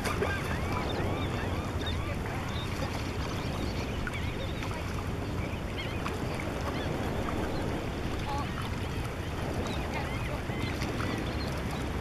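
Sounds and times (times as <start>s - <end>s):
water: 0.0s - 12.0s
wind: 0.0s - 12.0s.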